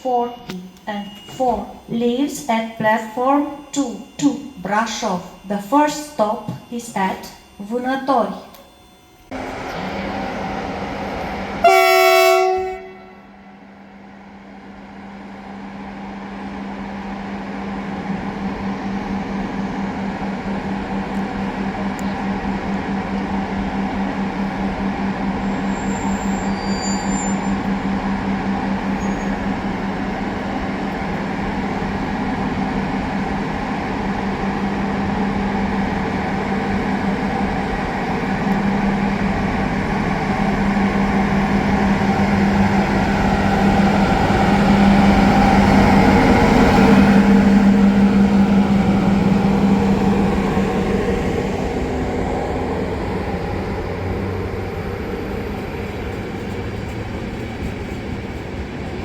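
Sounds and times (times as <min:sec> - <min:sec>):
electric locomotive hum: 0:00.0 - 0:59.0.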